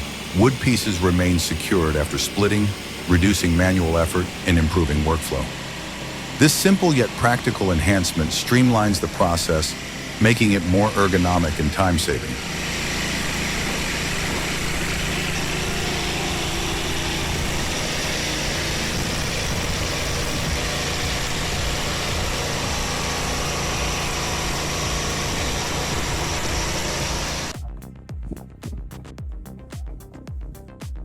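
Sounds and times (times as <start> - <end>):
engine running steadily: 0.0 - 28.4.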